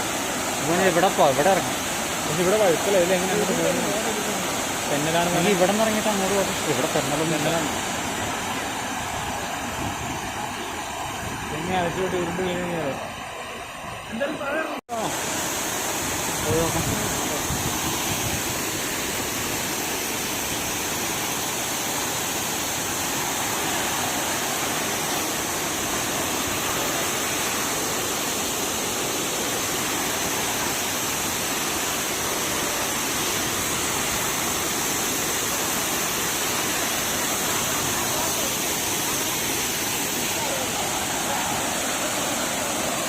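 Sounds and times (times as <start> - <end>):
waterfall splashing: 0.0 - 43.0.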